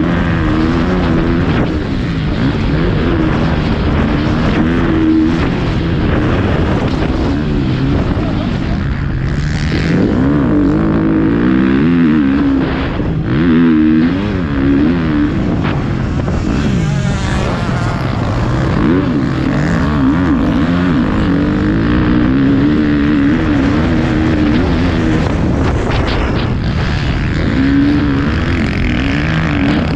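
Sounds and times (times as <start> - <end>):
motocross bike engine revving: 0.0 - 29.9.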